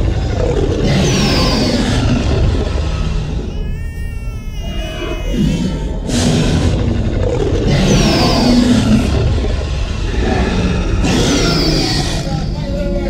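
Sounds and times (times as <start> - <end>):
dinosaur roar over loudspeakers: 0.0 - 3.5, 4.7 - 13.0
deep rumble: 0.0 - 3.9, 5.0 - 13.0.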